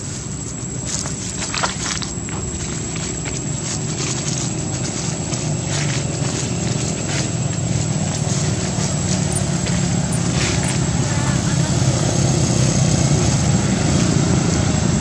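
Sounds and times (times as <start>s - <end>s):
high-pitched whine: 0.0s - 15.0s
motor engine running: 0.0s - 15.0s.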